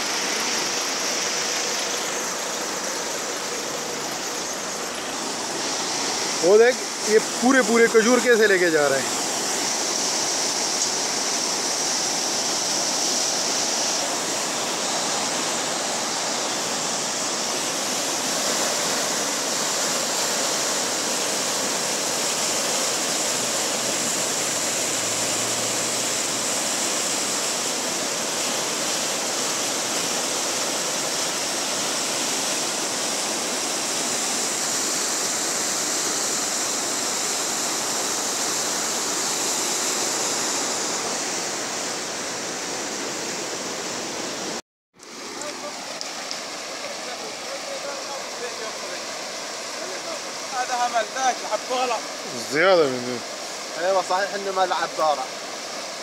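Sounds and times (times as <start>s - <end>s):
flood water rushing: 0.0s - 56.0s.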